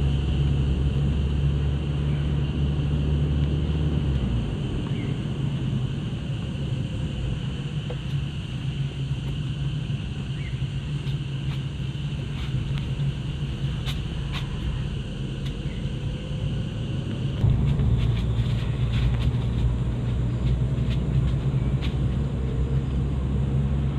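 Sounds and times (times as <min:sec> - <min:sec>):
forest insects droning: 0:00.0 - 0:23.9
vehicle engine hum and rumble: 0:00.0 - 0:23.9.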